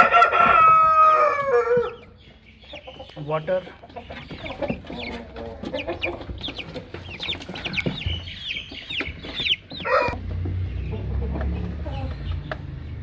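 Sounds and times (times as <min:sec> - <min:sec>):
chicks peeping: 0:00.0 - 0:13.0
hens clucking: 0:00.0 - 0:13.0.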